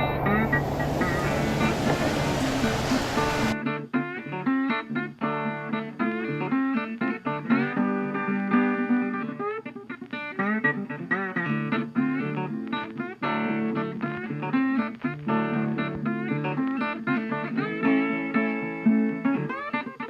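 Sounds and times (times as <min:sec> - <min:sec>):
plucked guitar music: 0:00.0 - 0:20.0.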